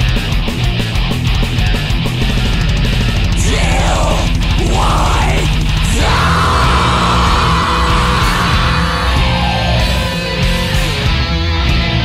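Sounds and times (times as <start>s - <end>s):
thrash metal music: 0.0s - 12.0s.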